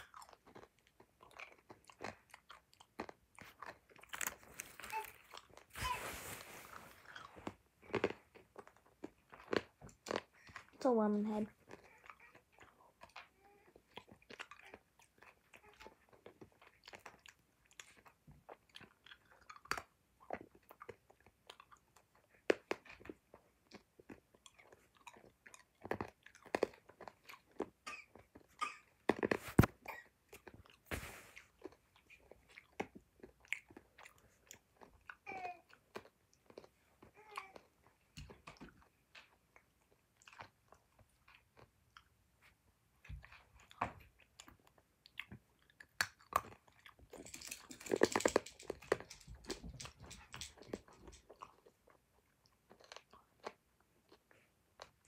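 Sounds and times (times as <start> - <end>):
child crunching hard candy: 0.0 - 38.6, 45.2 - 55.0.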